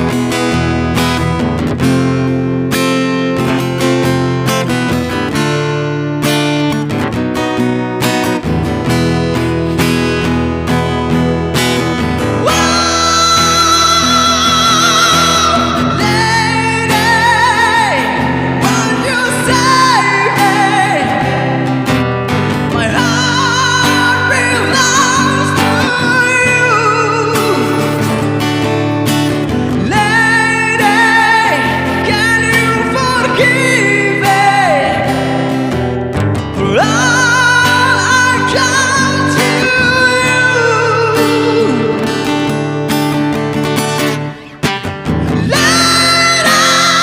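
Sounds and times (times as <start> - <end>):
guitar accompaniment: 0.0 - 47.0
high singing with vibrato: 8.2 - 47.0.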